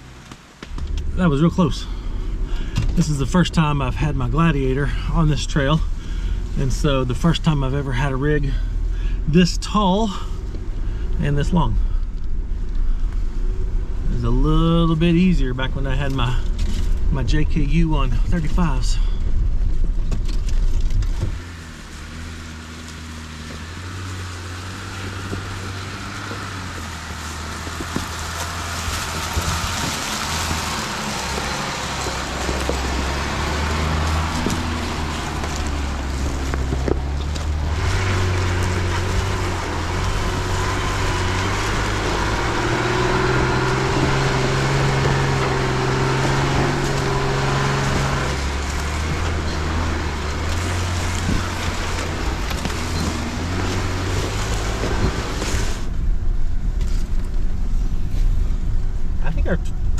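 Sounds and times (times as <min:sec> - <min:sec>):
truck engine running at low speed: 0:00.0 - 0:59.9
tyres on rough trail: 0:00.0 - 0:59.9.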